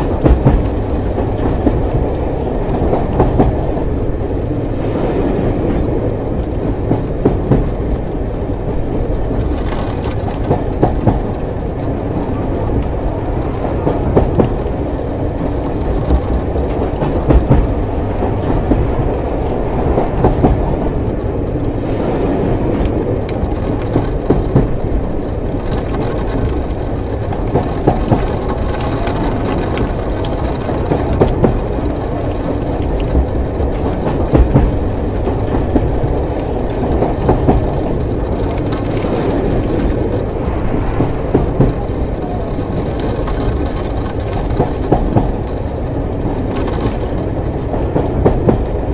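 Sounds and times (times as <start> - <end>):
train running on rails: 0.0 - 48.9.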